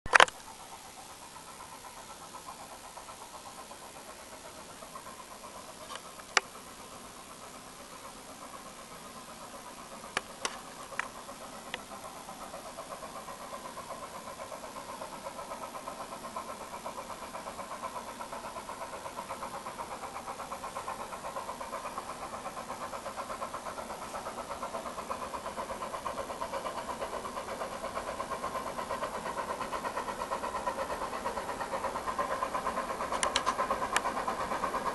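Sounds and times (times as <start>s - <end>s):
steam locomotive exhaust beats: 0.1s - 34.9s.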